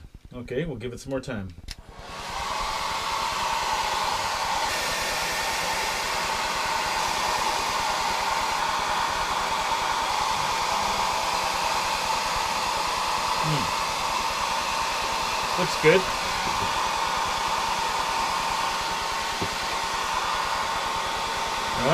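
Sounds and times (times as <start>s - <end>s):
hair dryer running: 1.8s - 21.9s.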